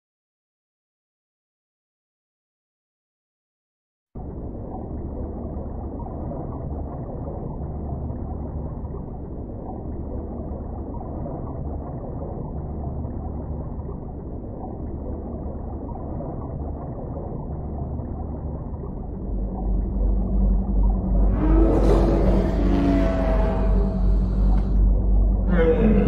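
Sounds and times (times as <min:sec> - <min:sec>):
low muffled rumbling: 0:04.2 - 0:26.0
steady low tone: 0:04.2 - 0:26.0.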